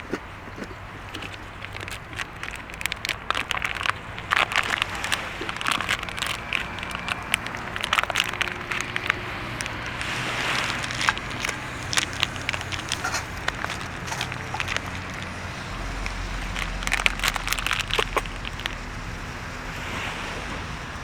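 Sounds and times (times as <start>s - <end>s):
bonfire crackling and popping: 0.8s - 19.2s.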